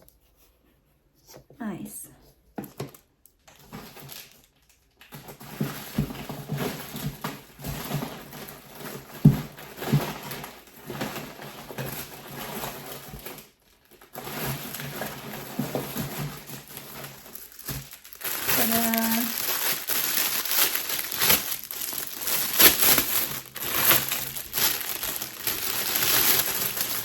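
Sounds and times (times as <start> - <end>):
packaging rustling: 2.8 - 27.0.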